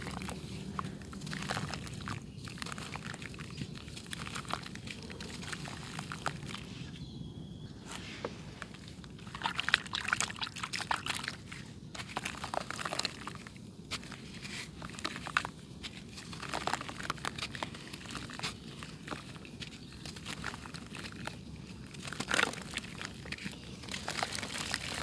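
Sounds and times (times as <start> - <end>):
dry clay crunching: 0.0 - 25.0.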